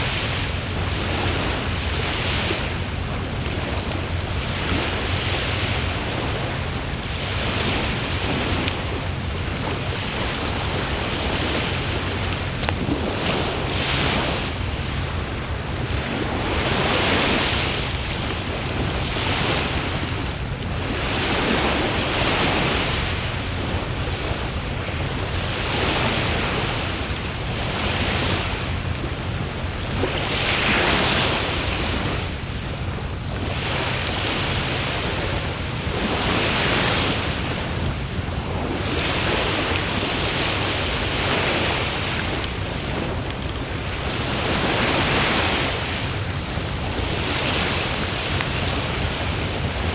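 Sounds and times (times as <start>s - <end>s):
faint fire crackles: 0.0s - 30.7s, 31.3s - 45.2s, 45.8s - 49.9s.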